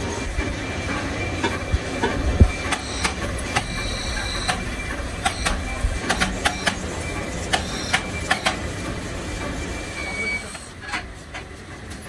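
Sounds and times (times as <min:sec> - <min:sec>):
low machinery drone: 0:00.0 - 0:12.0.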